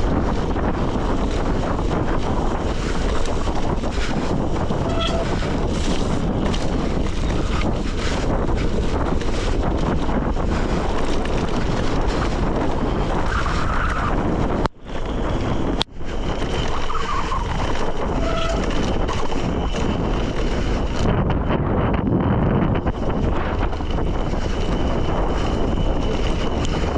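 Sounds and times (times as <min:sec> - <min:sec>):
bike tyres crunching on gravel: 0:00.0 - 0:14.2, 0:15.0 - 0:21.2, 0:22.9 - 0:26.9
bike clicks and rattles: 0:00.0 - 0:26.9
wind buffeting microphone: 0:00.0 - 0:26.9.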